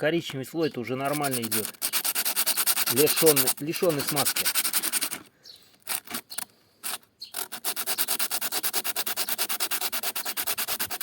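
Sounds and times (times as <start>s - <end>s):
brake pad scraping on sandpaper: 0.8s - 11.0s.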